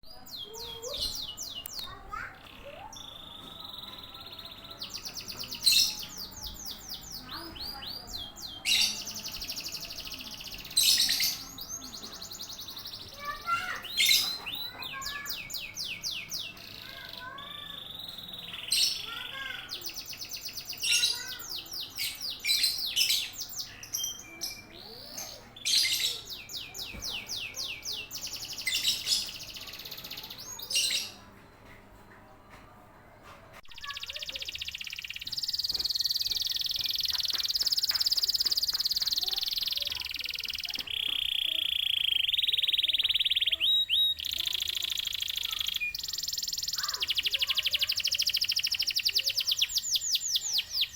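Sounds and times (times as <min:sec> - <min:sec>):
canaries singing: 0:00.0 - 0:31.8, 0:33.6 - 0:50.9.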